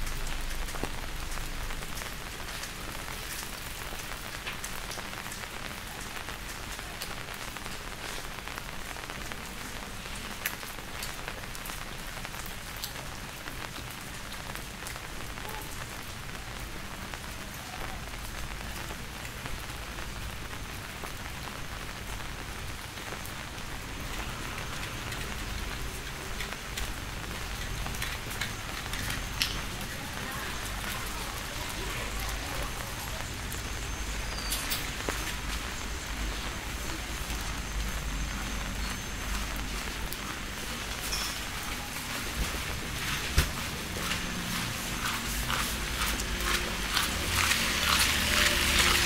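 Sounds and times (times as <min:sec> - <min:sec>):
steady rain falling: 0:00.0 - 0:49.0.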